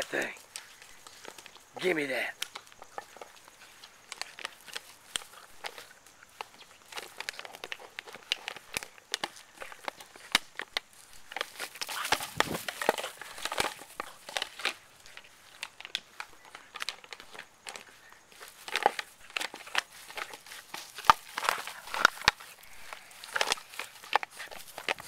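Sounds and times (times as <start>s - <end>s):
plastic bottle crinkling: 0.0s - 25.0s.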